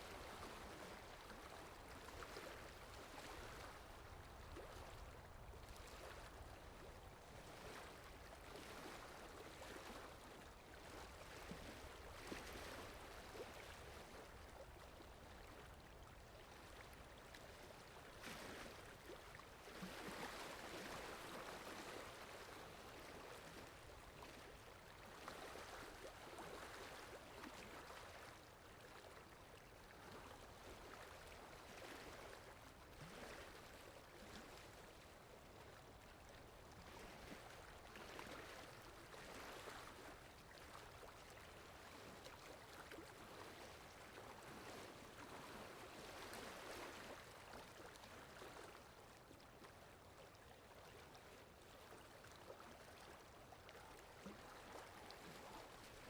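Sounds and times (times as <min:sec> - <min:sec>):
faint flowing water: 0:00.0 - 0:56.0.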